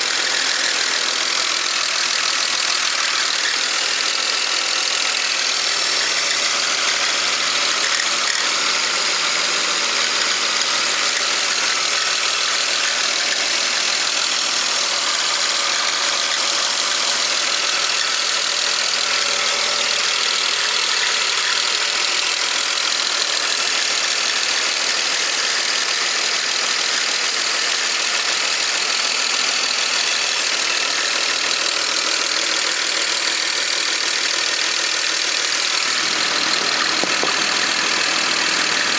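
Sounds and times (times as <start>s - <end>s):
car engine running: 0.0s - 38.9s
engine ticking: 0.0s - 38.9s.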